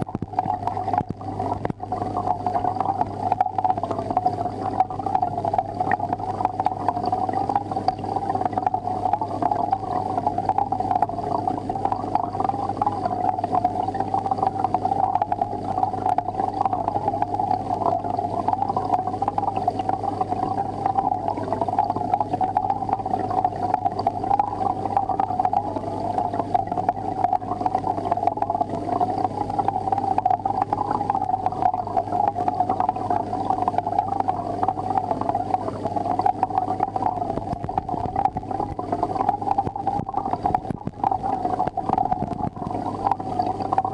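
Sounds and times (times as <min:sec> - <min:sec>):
aquarium equipment humming: 0:00.0 - 0:43.9
water burbling: 0:00.0 - 0:43.9.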